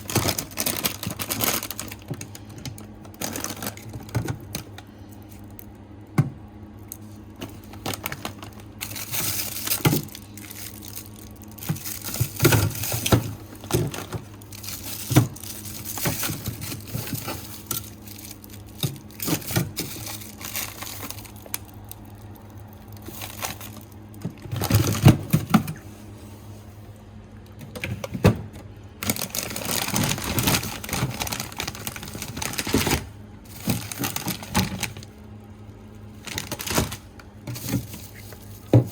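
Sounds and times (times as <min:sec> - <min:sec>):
plastic packaging crinkling: 0:00.0 - 0:06.0, 0:06.7 - 0:25.8, 0:28.9 - 0:38.9.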